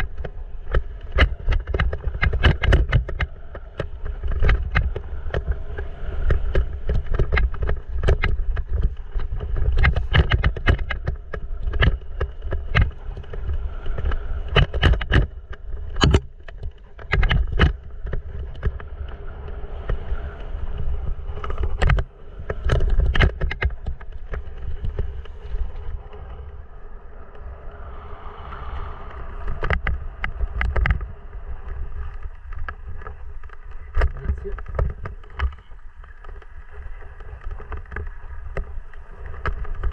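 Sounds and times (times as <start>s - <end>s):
bike rattling clicks and knocks: 0.0s - 26.6s, 29.0s - 39.9s
bike rolling over gravel: 0.0s - 39.9s.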